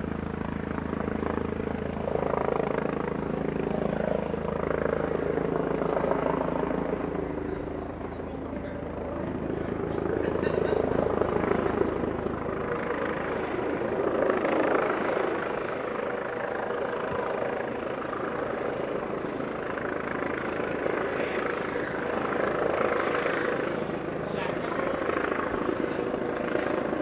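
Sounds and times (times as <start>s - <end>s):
helicopter rotor drone: 0.0s - 27.0s.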